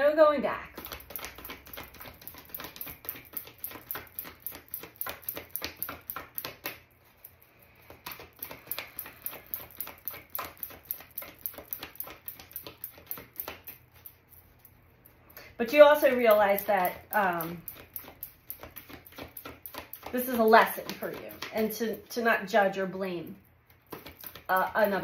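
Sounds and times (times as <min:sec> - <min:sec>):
cards being shuffled: 0:00.7 - 0:14.7, 0:15.7 - 0:22.1, 0:23.6 - 0:25.0.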